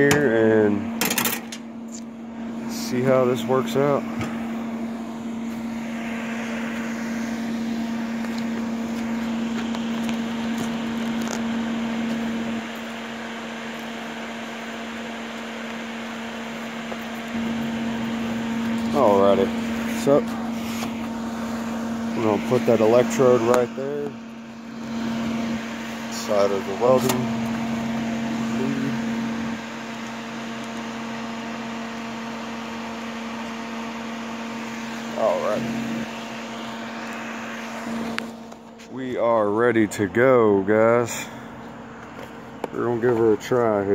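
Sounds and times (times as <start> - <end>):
steady electrical hum: 0.0 - 43.9
welder cooling fan: 0.0 - 43.9.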